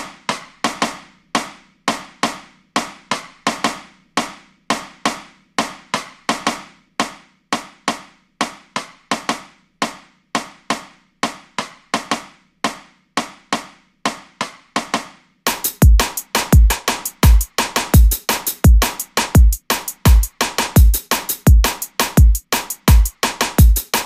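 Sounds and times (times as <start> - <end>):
drum beat with deep kick drum: 0.0 - 24.0.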